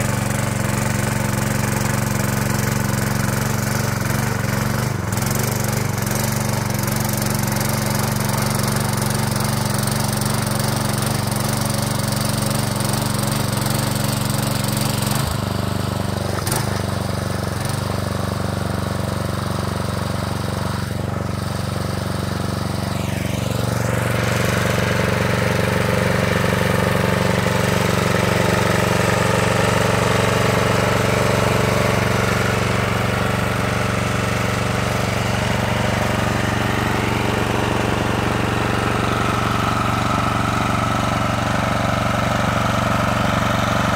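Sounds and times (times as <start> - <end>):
rotavator engine running: 0.0 - 43.9.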